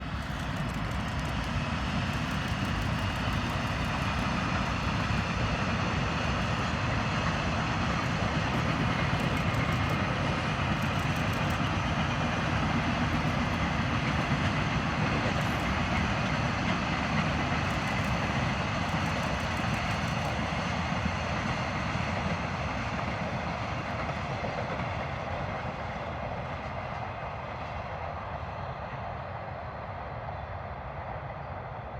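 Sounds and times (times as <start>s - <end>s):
freight train wheels on rails: 0.0s - 31.9s.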